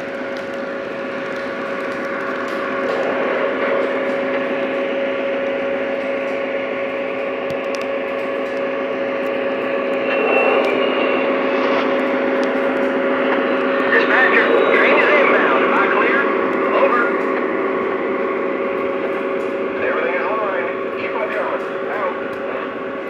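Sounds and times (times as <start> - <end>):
model locomotive electric hum: 0.0 - 23.0.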